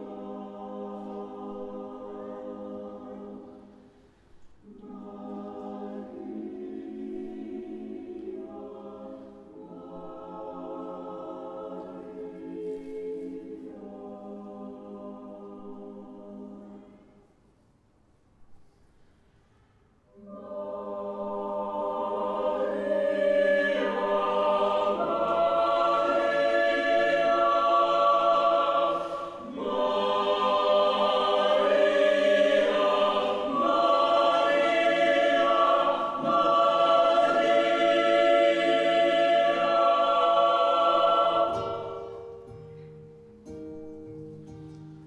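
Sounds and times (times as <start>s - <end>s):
choir singing held chords: 0.0s - 17.4s, 20.1s - 43.3s.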